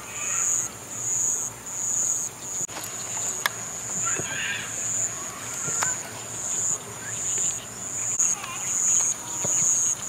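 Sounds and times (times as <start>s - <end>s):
high-pitched insect chirping: 0.1s - 5.1s, 5.7s - 10.0s.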